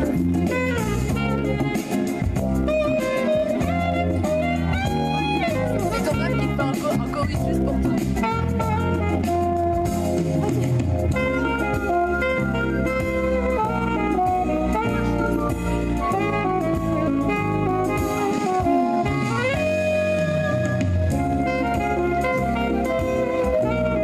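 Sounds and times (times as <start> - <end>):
saxophone ensemble playing jazz: 0.0 - 24.0.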